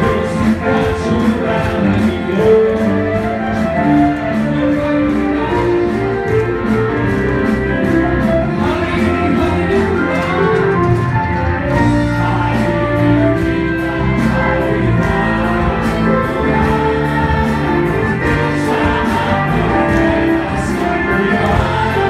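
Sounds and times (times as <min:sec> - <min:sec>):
group of voices singing: 0:00.0 - 0:22.0
worship song by live band: 0:00.0 - 0:22.0.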